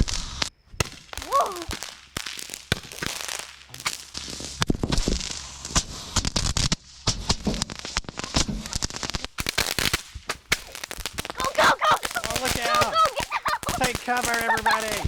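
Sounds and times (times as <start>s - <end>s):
continuous hiss: 0.0s - 15.0s
fireworks cracking and popping: 0.0s - 15.0s.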